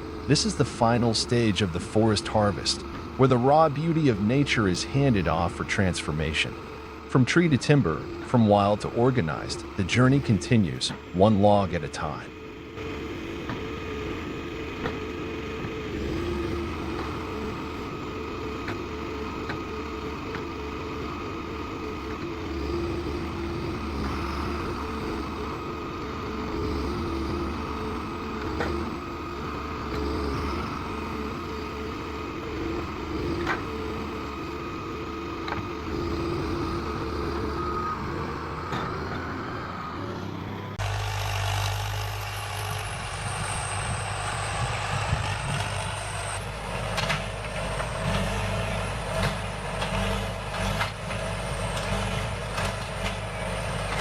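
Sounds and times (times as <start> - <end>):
deep loud engine hum: 0.0 - 54.0
engine running steadily: 0.0 - 54.0.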